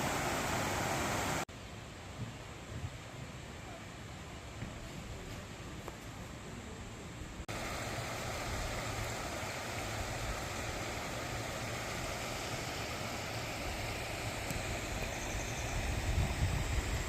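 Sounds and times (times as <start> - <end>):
stream rushing: 0.0 - 5.7, 7.4 - 17.0.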